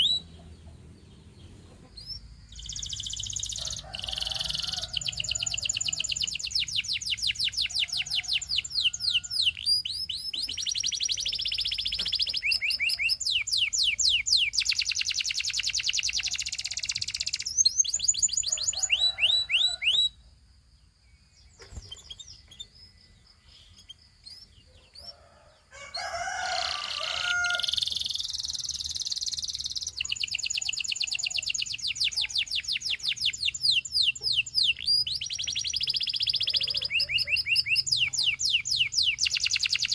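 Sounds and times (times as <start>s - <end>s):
canary singing in fast trills: 0.0s - 20.2s, 21.2s - 39.9s.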